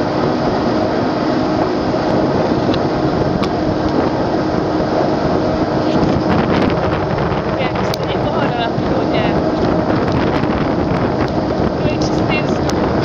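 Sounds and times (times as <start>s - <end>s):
boat engine humming: 0.0s - 13.0s
water rushing: 0.0s - 13.0s.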